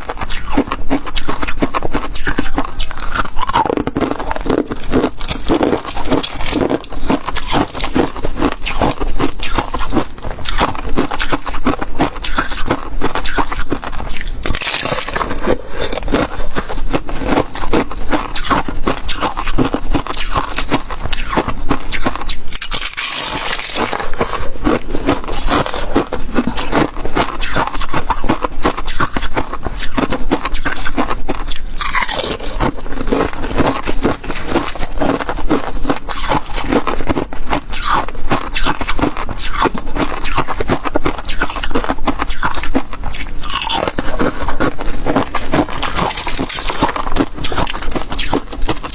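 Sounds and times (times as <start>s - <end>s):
chewing crunchy ice: 0.0s - 48.9s.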